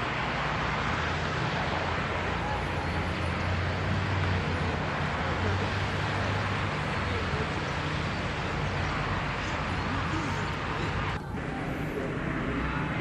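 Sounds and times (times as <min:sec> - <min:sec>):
urban traffic rumble: 0:00.0 - 0:13.0.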